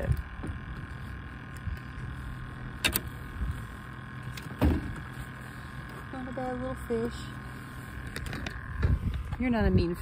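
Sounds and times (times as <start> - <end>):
low hum: 0.0 - 10.0
small electric motor whining: 0.0 - 10.0.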